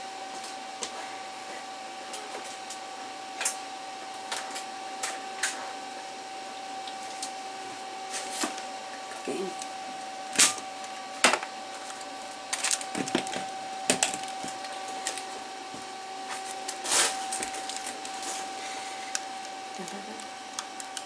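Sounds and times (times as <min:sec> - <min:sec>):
high-pitched electrical whine: 0:00.0 - 0:21.0.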